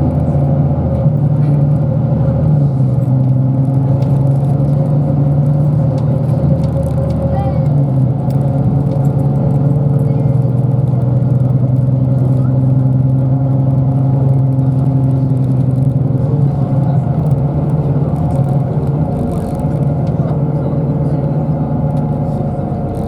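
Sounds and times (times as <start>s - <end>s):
bus engine running: 0.0s - 23.0s
road noise: 0.0s - 23.0s.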